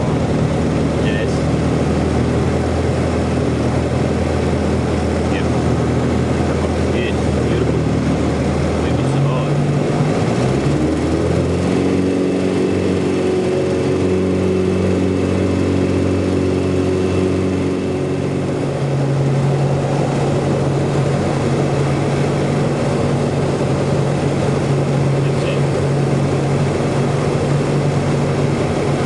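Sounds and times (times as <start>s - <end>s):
light aircraft engine and propeller: 0.0s - 29.0s.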